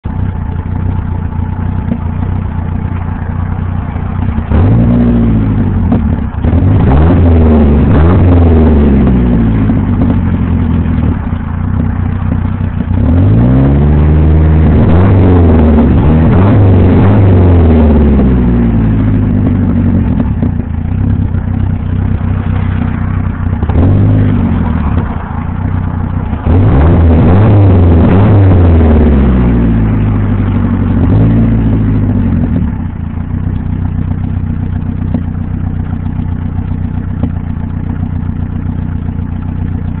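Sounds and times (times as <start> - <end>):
car engine revving and idling: 0.0 - 40.0.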